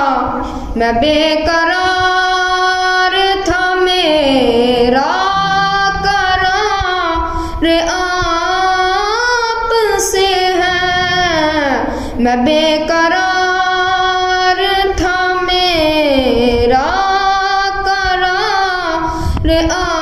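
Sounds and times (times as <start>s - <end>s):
boy singing unaccompanied: 0.0s - 20.0s.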